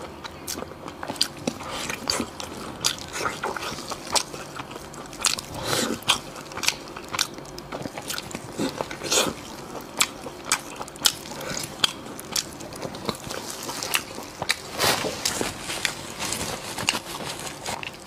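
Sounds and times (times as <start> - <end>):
chewing sticky meat: 0.0 - 18.0.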